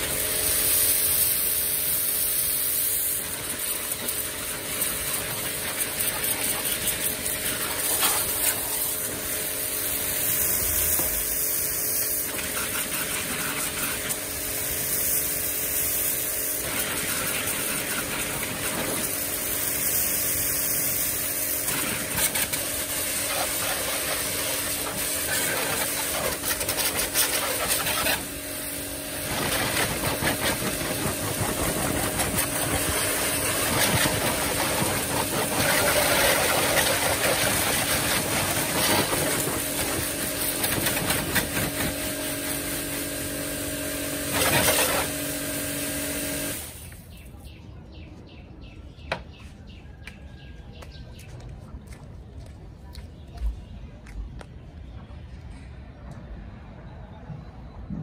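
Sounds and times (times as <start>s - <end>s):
pressure washer motor humming: 0.0s - 47.1s
water jet spraying: 0.0s - 47.1s.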